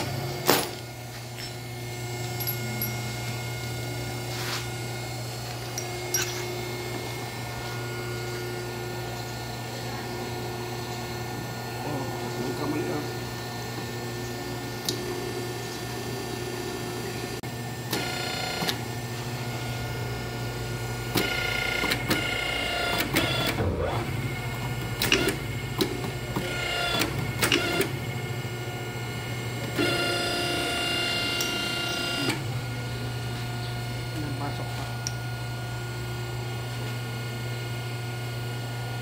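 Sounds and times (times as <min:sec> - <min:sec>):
high machine whine: 0:00.0 - 0:39.0
machine low hum: 0:00.0 - 0:39.0.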